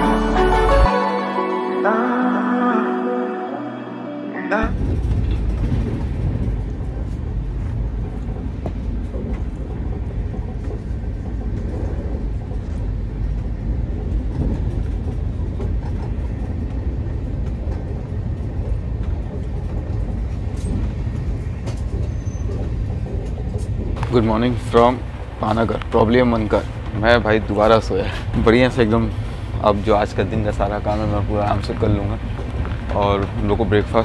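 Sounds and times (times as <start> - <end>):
train rumble from inside coach: 4.6 - 34.0.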